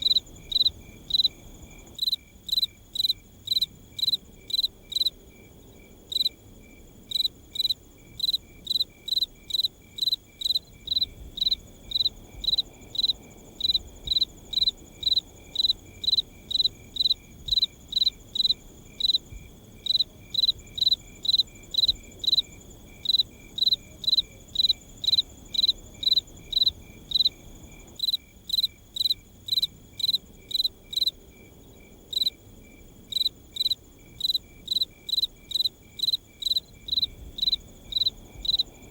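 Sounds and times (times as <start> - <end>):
cricket chirping: 0.0 - 38.9
faint insect trill: 0.0 - 38.9.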